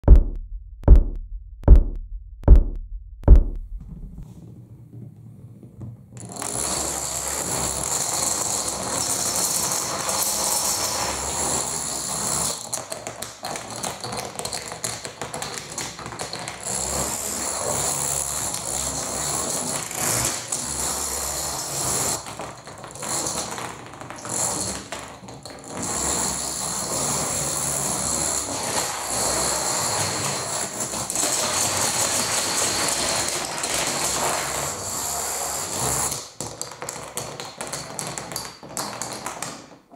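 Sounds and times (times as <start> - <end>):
dominoes toppling on wooden floor: 4.4 - 39.9.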